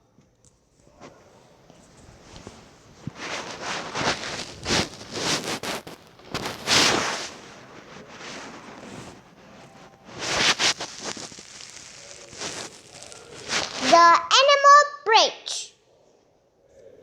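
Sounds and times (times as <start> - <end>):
rustling and crinkling: 0.1 - 14.4.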